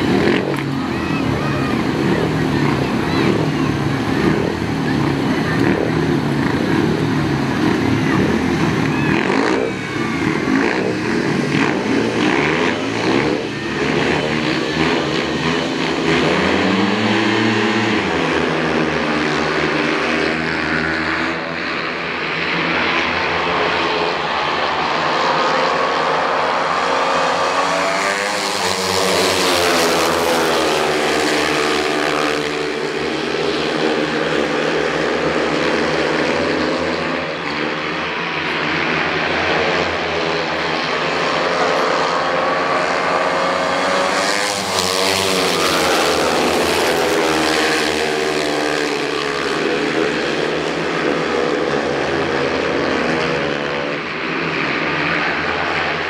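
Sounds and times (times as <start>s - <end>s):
motorcycle engines racing: 0.0s - 56.0s.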